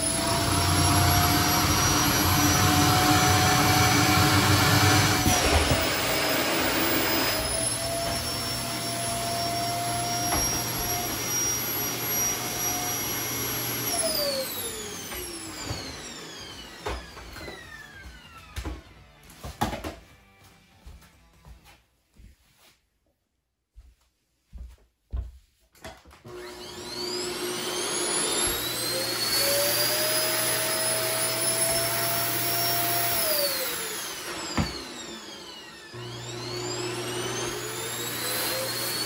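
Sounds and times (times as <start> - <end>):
vacuum cleaner running: 0.0 - 19.3, 26.2 - 39.0.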